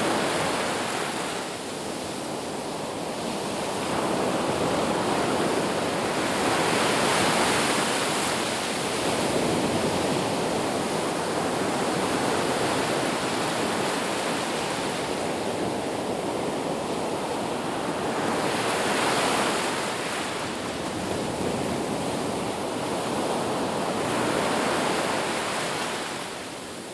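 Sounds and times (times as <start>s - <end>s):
sea waves breaking on beach: 0.0s - 26.9s.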